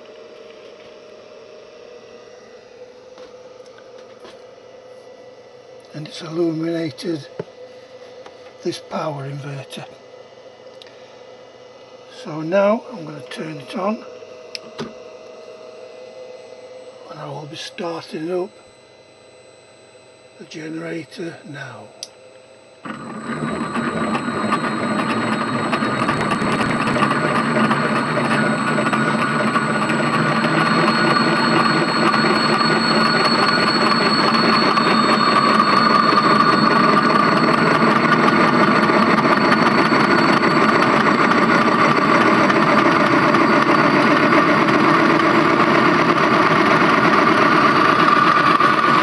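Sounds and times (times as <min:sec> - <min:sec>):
electric motor whirring with high whine: 0:00.0 - 0:49.0.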